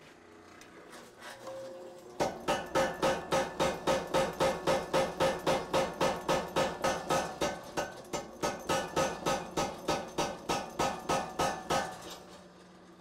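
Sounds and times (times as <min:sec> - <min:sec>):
hammer striking hot steel: 0:01.5 - 0:12.4.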